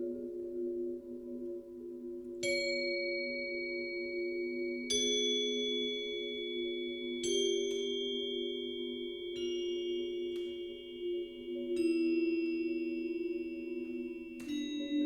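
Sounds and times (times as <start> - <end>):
vibraphone tones: 2.4 - 15.0.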